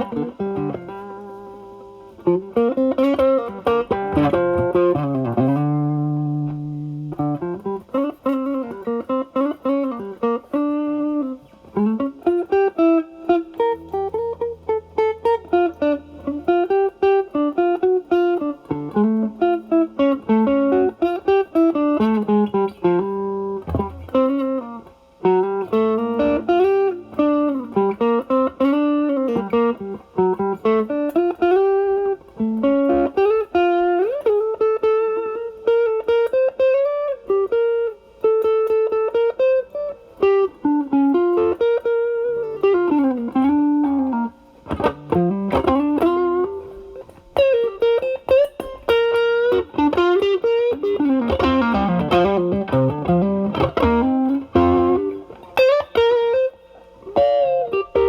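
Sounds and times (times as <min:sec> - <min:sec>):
overdriven electric guitar blues lead: 0:00.0 - 0:58.0.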